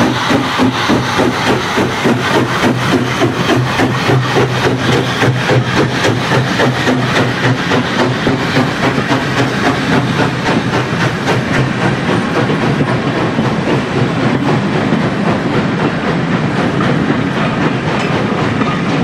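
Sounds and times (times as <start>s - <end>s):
train wheels clicking over rail joints: 0.0s - 19.0s.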